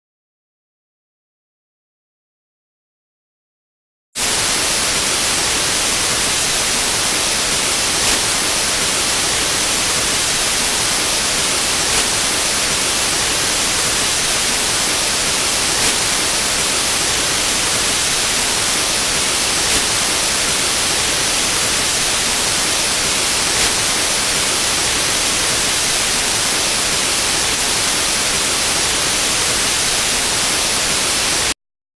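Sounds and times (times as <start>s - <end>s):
tv static hiss: 4.2s - 31.6s.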